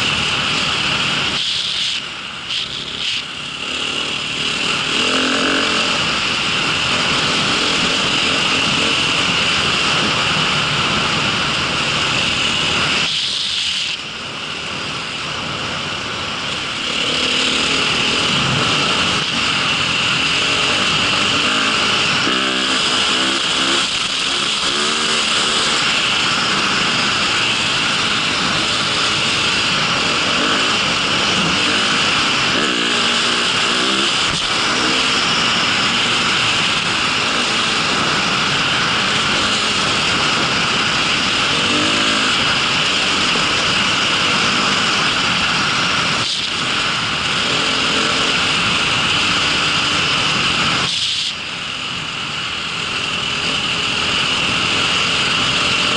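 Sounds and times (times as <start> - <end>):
loud continuous rushing noise: 0.0 - 55.9
motor vehicle running: 0.0 - 55.9.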